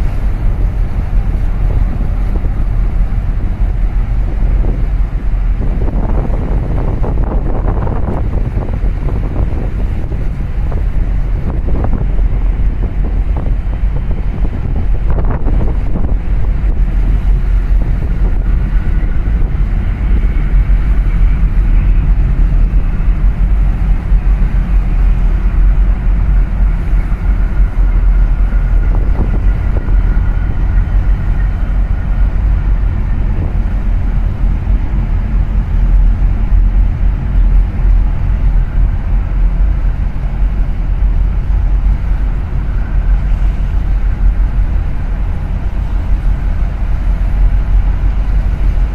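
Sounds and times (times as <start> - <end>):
boat engine rumble: 0.0 - 48.9
wind buffeting the microphone: 0.0 - 48.9.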